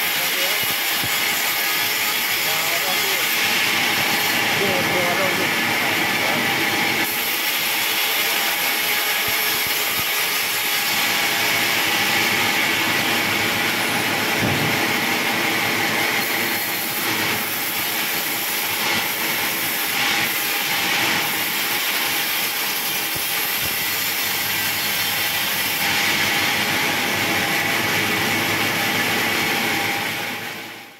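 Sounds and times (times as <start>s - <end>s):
band saw cutting log: 0.0s - 30.4s.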